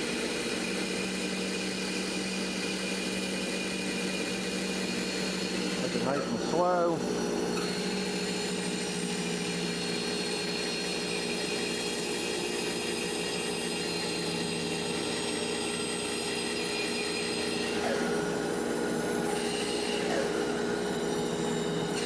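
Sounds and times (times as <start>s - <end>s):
bandsaw cutting log: 0.0s - 22.0s.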